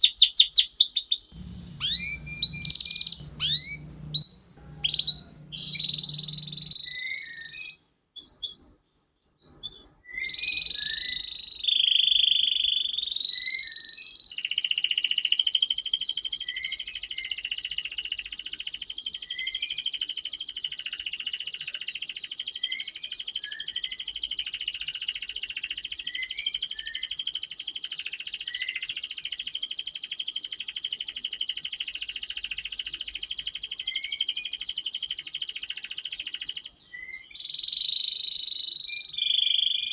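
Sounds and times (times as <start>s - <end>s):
canary trilling song: 0.0s - 39.9s.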